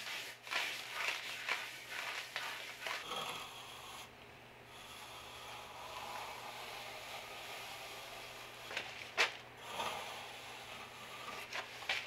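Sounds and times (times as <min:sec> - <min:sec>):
sponge float scrubbing stucco: 0:00.0 - 0:04.1, 0:05.0 - 0:12.0.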